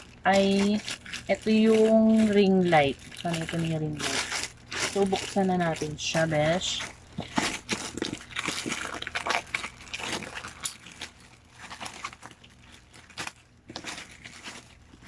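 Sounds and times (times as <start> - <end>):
packaging crinkling and crackling: 0.0 - 15.0.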